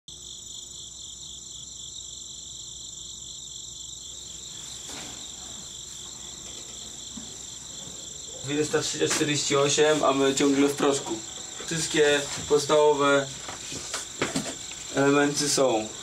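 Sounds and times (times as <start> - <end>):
crickets chirping: 0.1 - 16.0.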